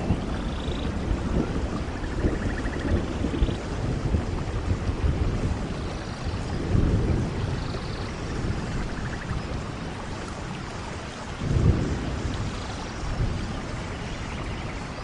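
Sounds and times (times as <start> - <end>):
low rolls of thunder: 0.0 - 15.0
steady rain: 0.0 - 15.0.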